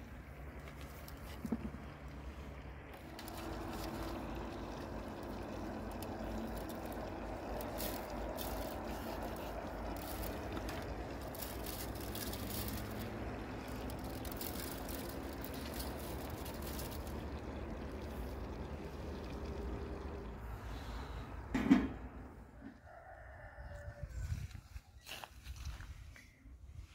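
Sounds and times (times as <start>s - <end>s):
low background rumble: 0.0s - 22.6s.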